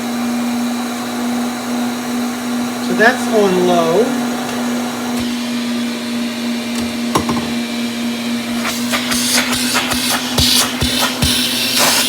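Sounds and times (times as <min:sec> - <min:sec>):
vacuum cleaner motor hum: 0:00.0 - 0:12.0.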